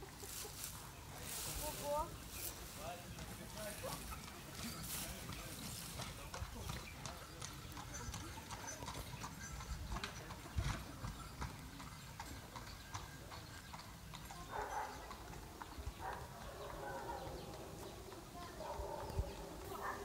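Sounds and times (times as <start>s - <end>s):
horse hooves clip-clopping: 0.0s - 20.0s.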